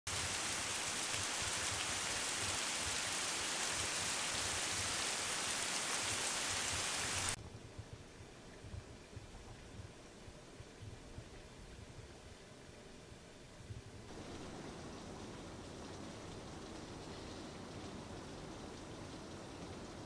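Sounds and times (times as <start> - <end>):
faint background hiss: 0.1 - 20.0
steady rain: 0.1 - 20.0.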